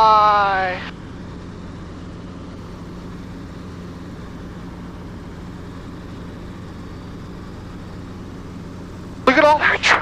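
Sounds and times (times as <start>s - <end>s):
helicopter engine and rotor noise: 0.0s - 10.0s.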